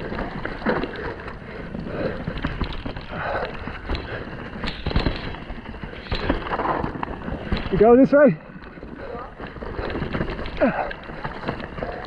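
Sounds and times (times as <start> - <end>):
mountain bike rattling over trail: 0.0 - 12.0.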